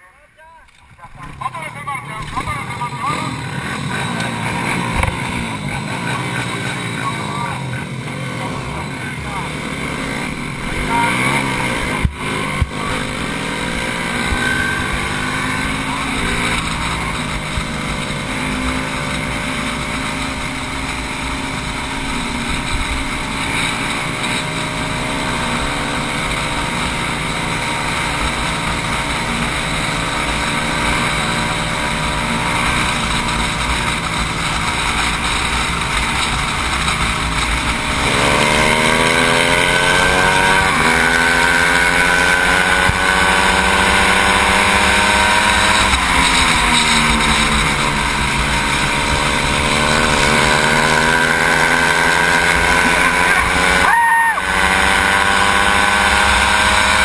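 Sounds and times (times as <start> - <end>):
racing motorcycle engine revving: 0.7 - 57.0.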